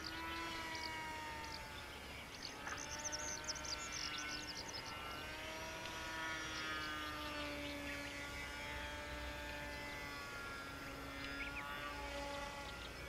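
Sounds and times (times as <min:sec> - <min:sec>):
birds chirping: 0:00.0 - 0:13.0
rc plane motor buzzing: 0:00.0 - 0:13.0.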